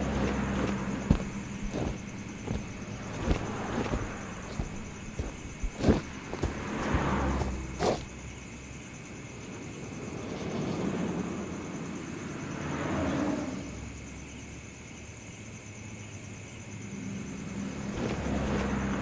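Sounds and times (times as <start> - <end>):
vehicles passing: 0.0 - 8.7, 9.4 - 14.1, 16.7 - 19.0.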